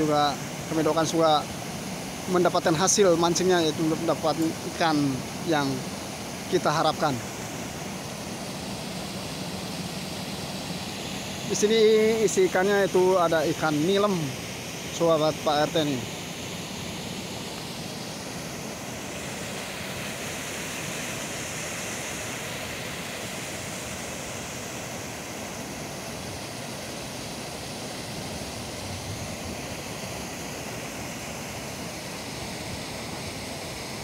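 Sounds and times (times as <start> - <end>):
river water rushing at a weir: 0.0 - 34.0.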